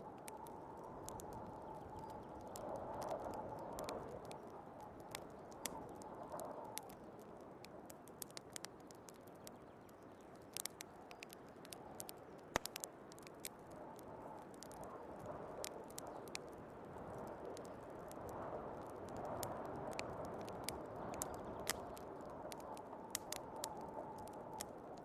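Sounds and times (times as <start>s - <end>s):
soft wind noise: 0.0s - 25.0s
wood fire crackling: 0.0s - 25.0s.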